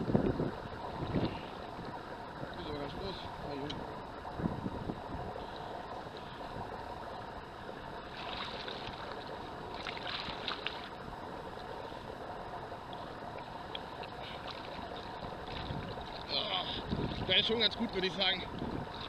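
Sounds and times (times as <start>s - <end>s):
rushing water: 0.0s - 19.0s
water splashing: 0.0s - 19.0s.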